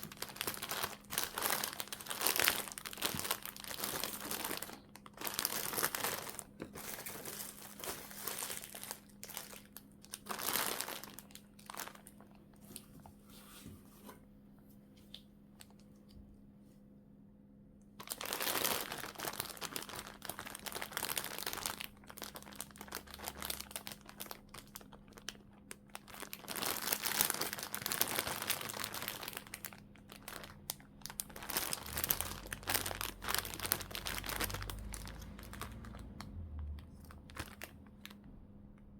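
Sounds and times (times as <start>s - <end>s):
plastic tearing: 0.0s - 12.4s, 18.0s - 38.2s
plastic packaging crinkling: 0.0s - 13.2s, 18.0s - 38.3s.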